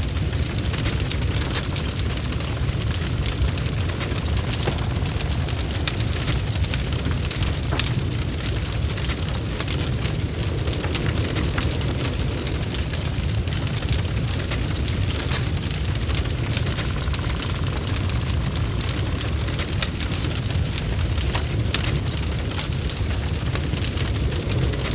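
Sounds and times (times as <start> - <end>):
bonfire crackles and pops: 0.0 - 24.9
low rumble of burning wood: 0.0 - 24.9.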